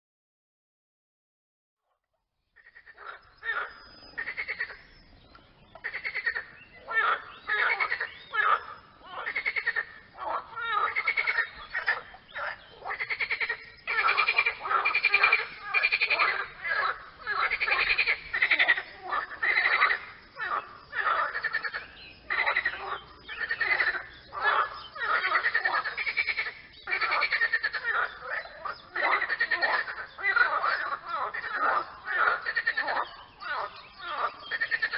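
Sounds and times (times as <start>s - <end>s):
frogs croaking in chorus: 2.6s - 34.9s.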